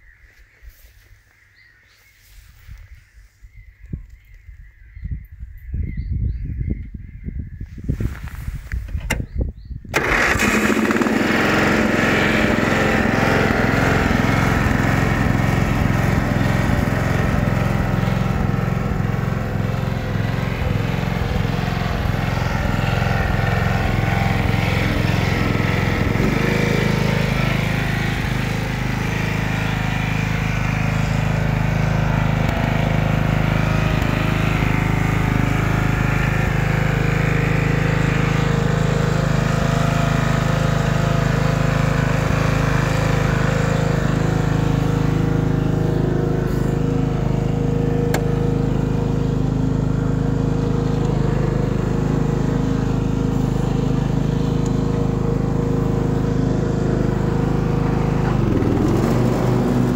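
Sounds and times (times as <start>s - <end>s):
mower engine cranking and running: 9.9s - 59.9s.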